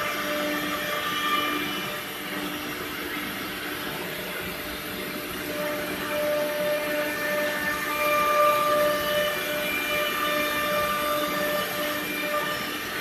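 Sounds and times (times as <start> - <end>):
router spindle whine cutting wood: 0.0 - 2.8, 5.1 - 13.0.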